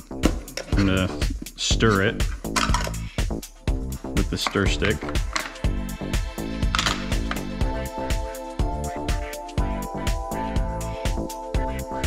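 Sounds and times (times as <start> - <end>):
steady drum beat: 0.0 - 11.8.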